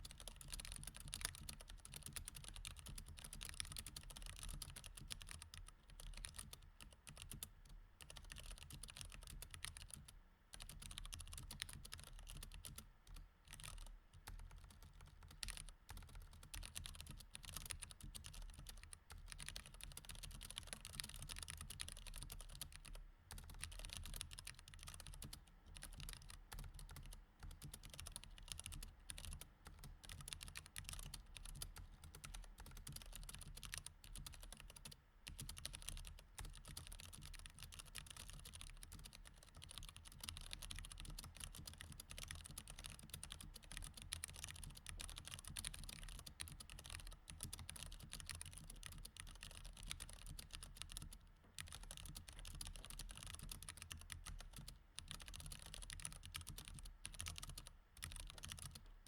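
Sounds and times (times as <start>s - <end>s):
typing on mechanical keyboard: 0.0s - 58.9s.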